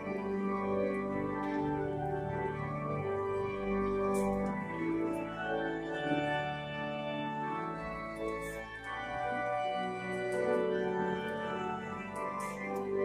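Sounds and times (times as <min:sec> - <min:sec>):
organ playing held chords: 0:00.0 - 0:13.0.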